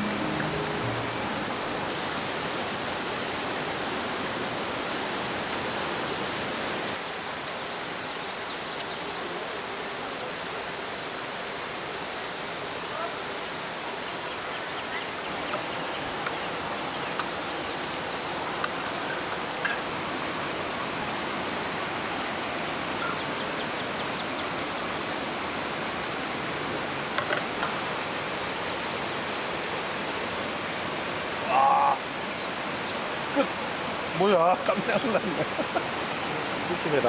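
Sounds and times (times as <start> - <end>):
stream rushing: 0.0 - 8.0, 9.6 - 37.0.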